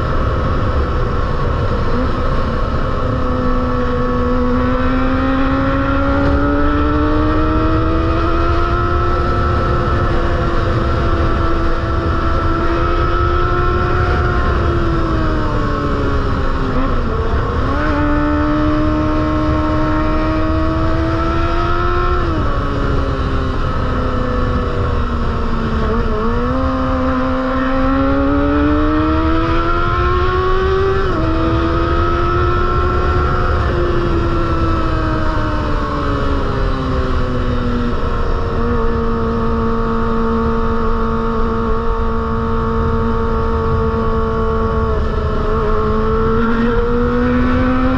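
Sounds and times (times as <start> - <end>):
wind noise: 0.0 - 47.9.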